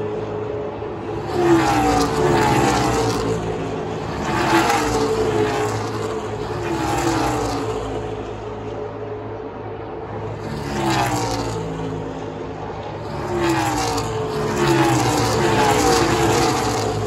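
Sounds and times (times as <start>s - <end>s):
low rumble of race cars: 0.0s - 17.0s
race car engines passing: 0.0s - 17.0s.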